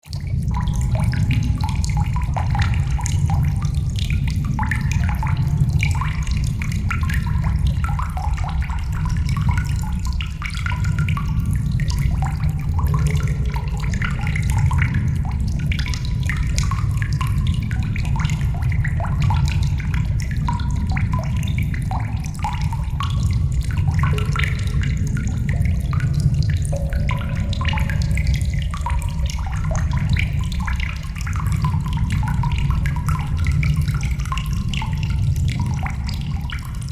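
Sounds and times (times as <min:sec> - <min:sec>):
water dripping in a cave: 0:00.0 - 0:36.9
steady low rumble: 0:00.1 - 0:36.9.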